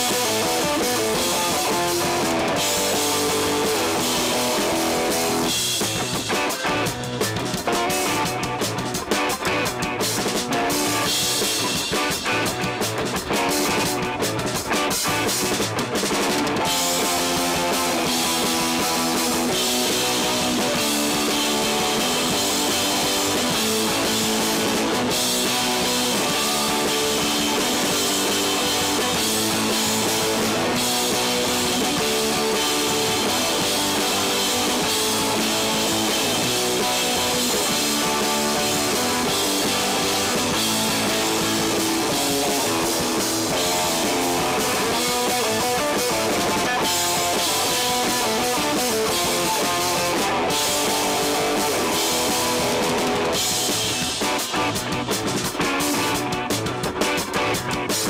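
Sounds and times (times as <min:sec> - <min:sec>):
drum hits: 0:00.0 - 0:58.0
electric guitar chords: 0:00.0 - 0:58.0
live rock band playing: 0:00.0 - 0:58.0.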